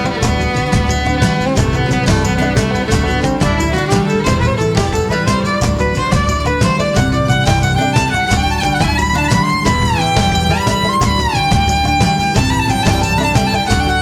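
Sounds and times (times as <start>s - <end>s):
steady beat: 0.0s - 14.0s
violin-like melody: 0.0s - 14.0s.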